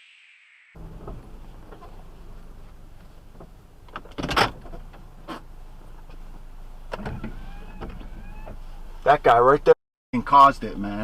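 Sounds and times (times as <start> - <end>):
car engine hum: 0.8 - 9.7.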